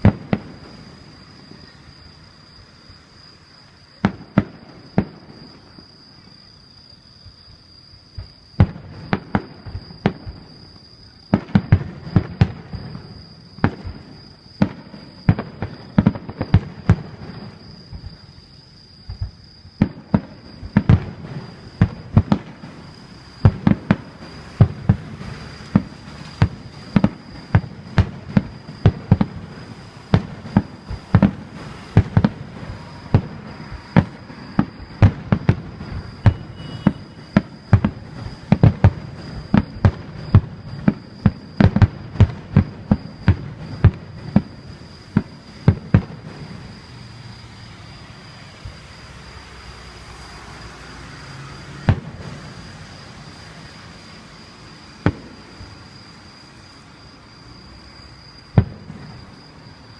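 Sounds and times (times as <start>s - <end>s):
fireworks bangs: 0.0s - 2.2s, 3.9s - 6.0s, 8.2s - 18.4s, 19.0s - 55.9s, 58.5s - 59.8s.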